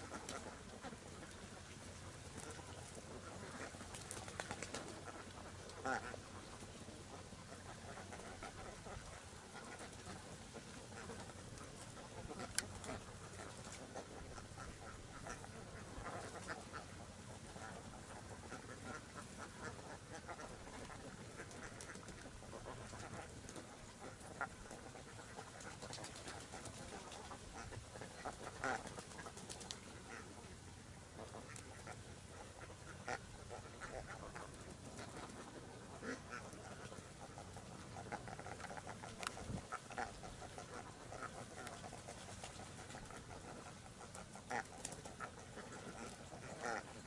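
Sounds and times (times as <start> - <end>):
background hiss: 0.0 - 47.0
ducks quacking: 0.0 - 47.0.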